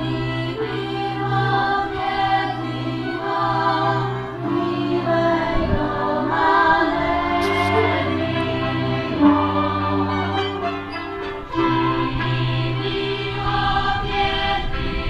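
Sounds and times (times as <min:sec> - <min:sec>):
group of voices singing: 0:00.0 - 0:15.0
string band playing: 0:00.0 - 0:15.0.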